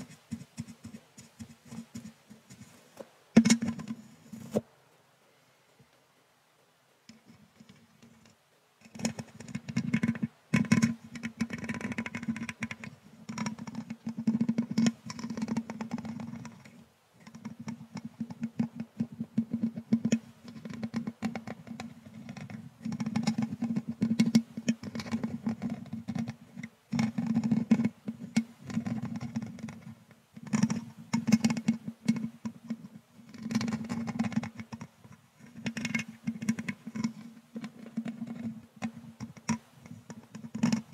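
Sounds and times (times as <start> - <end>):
brush rubbing microphone grille: 0.0 - 4.6, 8.9 - 40.9.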